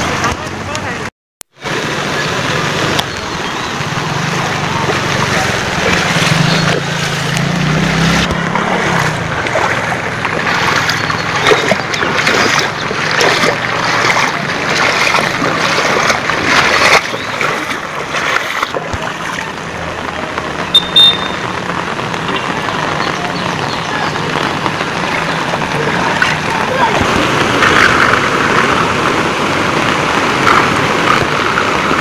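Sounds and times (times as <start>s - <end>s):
floodwater flowing and splashing: 0.0s - 32.0s
heavy rain: 0.0s - 32.0s.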